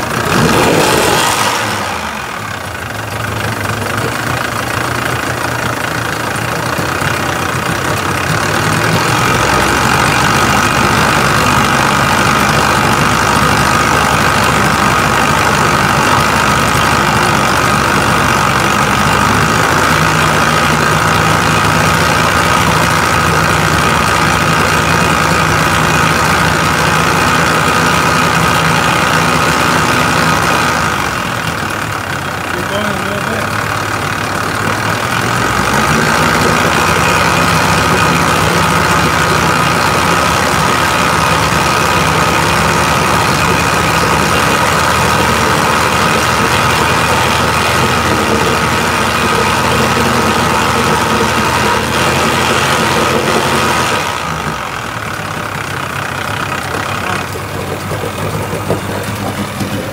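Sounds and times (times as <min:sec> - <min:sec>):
car engine idling: 0:00.0 - 0:59.9
engine whine: 0:00.0 - 0:59.9.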